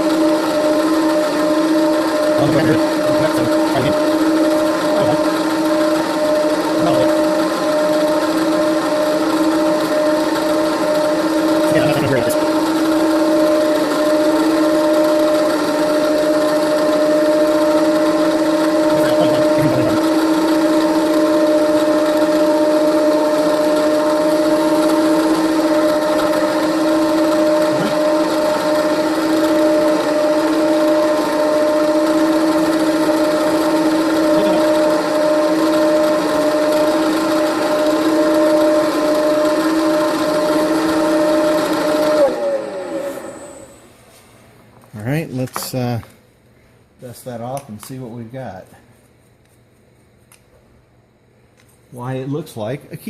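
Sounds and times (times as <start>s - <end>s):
milling machine motor hum: 0.0s - 43.9s.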